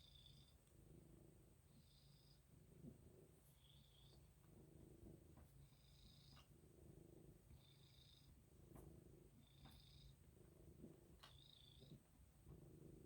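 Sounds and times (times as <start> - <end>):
cat purring: 0.2 - 13.0.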